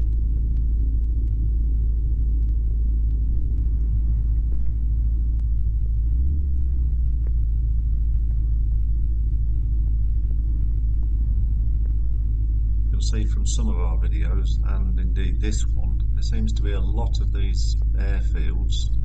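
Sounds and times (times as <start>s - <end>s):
airflow: 0.0s - 19.0s
microlight engine rumble: 0.0s - 19.0s.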